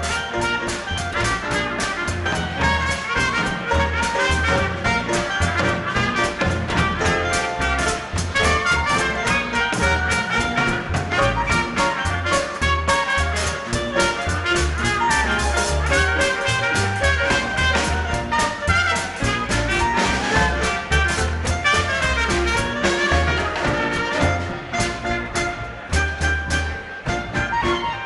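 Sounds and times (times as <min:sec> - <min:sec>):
drums with cymbals: 0:00.0 - 0:27.7
saxophone: 0:00.0 - 0:28.0
string bass: 0:00.0 - 0:28.0
swing band playing: 0:00.0 - 0:28.0
trumpet: 0:00.0 - 0:28.0.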